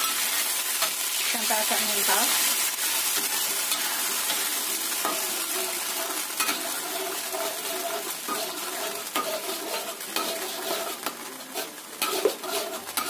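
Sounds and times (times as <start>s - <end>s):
sauce sizzling and bubbling: 0.0s - 13.0s
utensil scraping pan: 2.4s - 13.0s.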